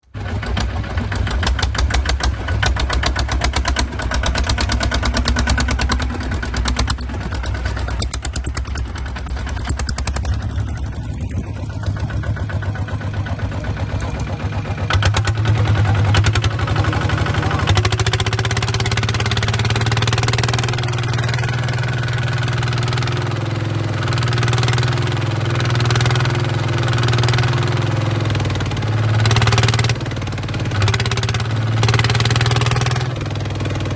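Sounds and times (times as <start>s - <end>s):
bulldozer engine chugging: 0.0s - 33.9s.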